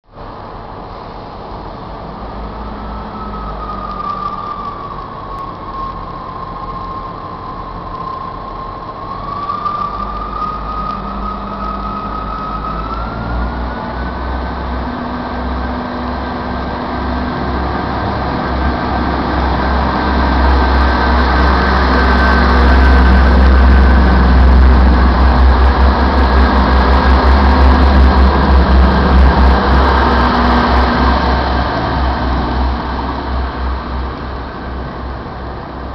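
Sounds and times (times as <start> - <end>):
diesel train engine rumble: 0.0 - 35.9
engine whine: 0.0 - 35.9.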